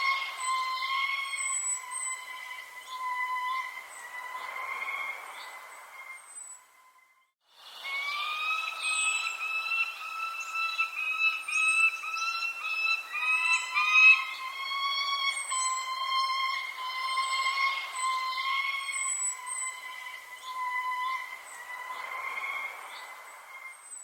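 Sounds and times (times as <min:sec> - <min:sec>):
birds chirping: 0:00.0 - 0:24.0
whistling bird call: 0:00.0 - 0:24.0.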